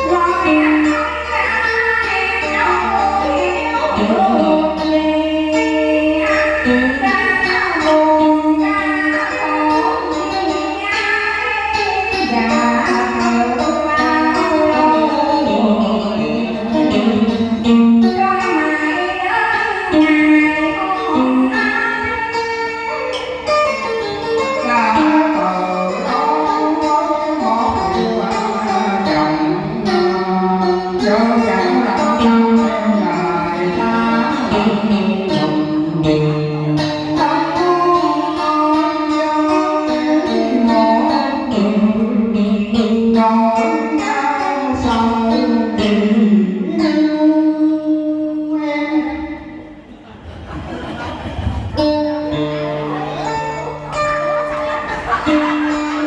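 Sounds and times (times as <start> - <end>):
song with melody and accompaniment: 0.0 - 56.0.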